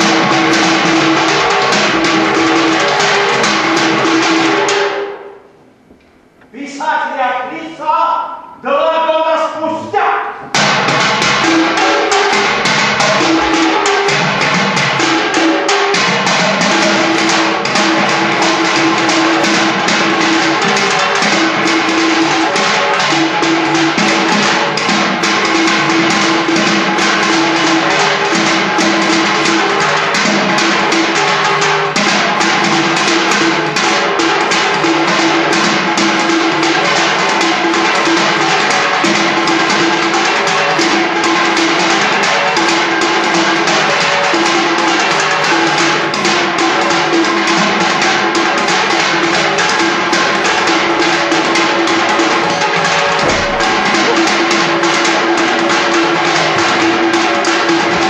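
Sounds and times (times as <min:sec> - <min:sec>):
percussion-driven music: 0:00.0 - 0:58.0.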